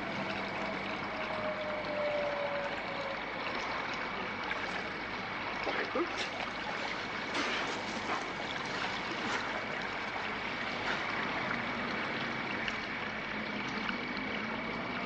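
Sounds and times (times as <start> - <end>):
fountain water trickling: 0.0 - 15.0.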